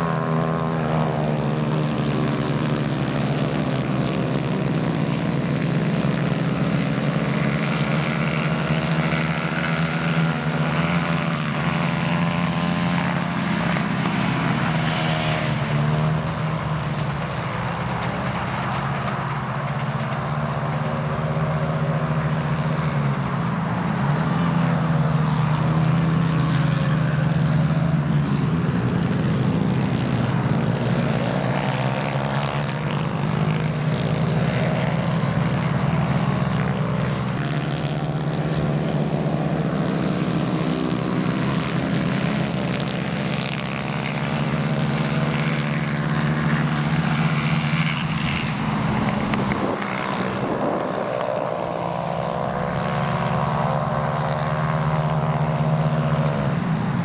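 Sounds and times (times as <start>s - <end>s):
racing kart engines buzzing: 0.0s - 57.0s
steady low drone: 0.0s - 57.0s.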